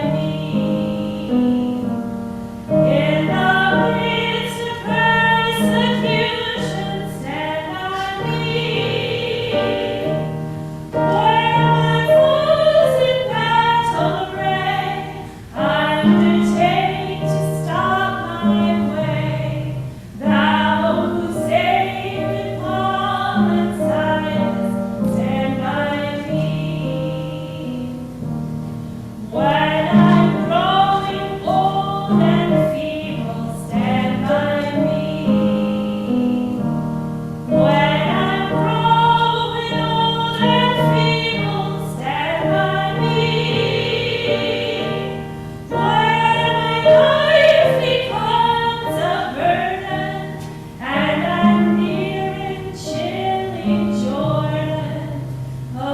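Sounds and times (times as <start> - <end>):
church choir singing a hymn: 0.0 - 28.2, 29.1 - 55.9.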